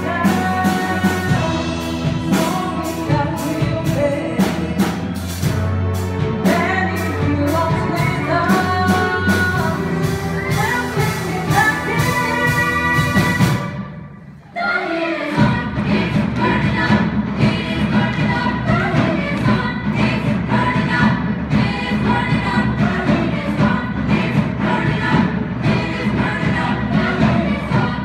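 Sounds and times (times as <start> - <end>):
group of voices singing: 0.0 - 5.8, 6.4 - 28.0.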